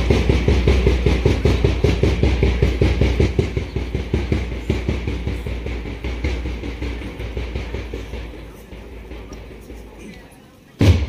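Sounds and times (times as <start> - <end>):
parade drums beating: 0.0 - 11.0.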